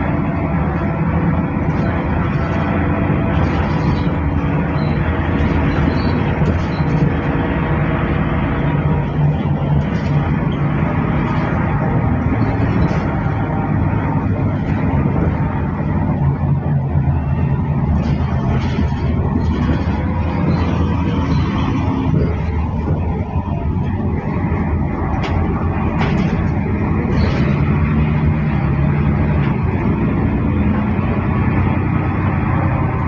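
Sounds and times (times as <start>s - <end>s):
hollow bus engine drone: 0.0s - 33.0s.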